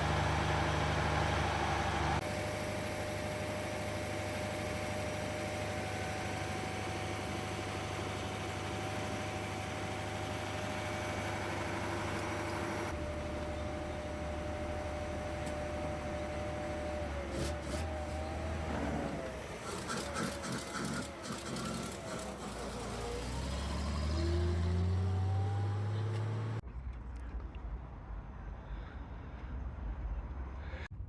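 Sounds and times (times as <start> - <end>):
fire engine engine running: 0.0 - 26.6.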